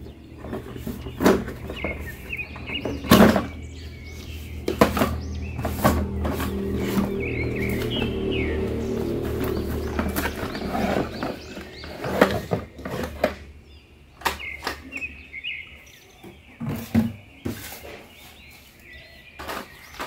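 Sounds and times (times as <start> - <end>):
faint birds chirping: 0.0 - 20.0.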